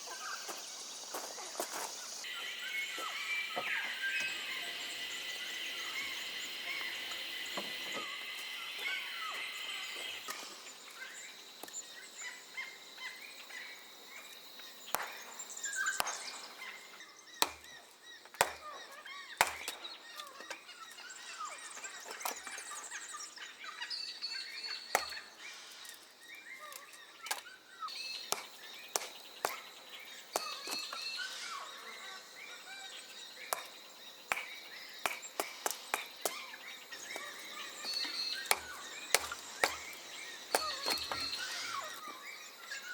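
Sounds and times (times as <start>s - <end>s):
birds chirping and calling: 0.0s - 42.9s.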